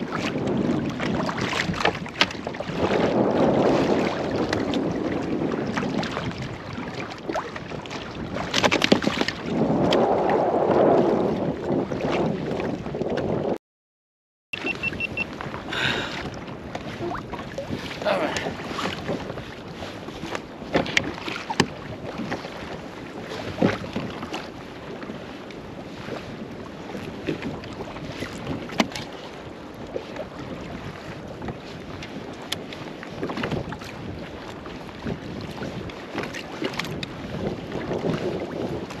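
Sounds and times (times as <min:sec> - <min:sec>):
water lapping against boat hull: 0:00.0 - 0:13.6, 0:14.6 - 0:39.0
wind on microphone: 0:00.0 - 0:13.6, 0:14.6 - 0:39.0.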